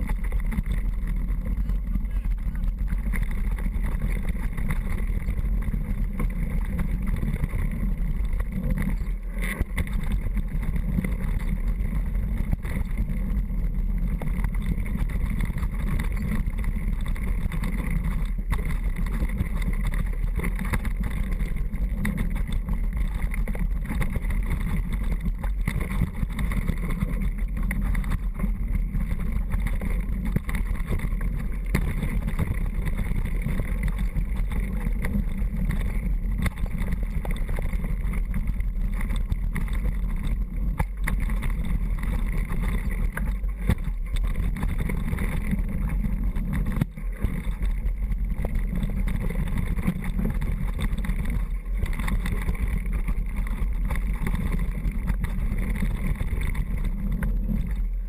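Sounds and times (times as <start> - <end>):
wind rush on microphone: 0.0 - 58.0.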